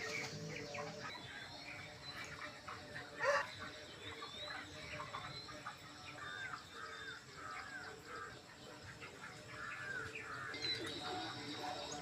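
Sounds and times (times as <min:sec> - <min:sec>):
flock of chickens calling: 0:00.0 - 0:12.0.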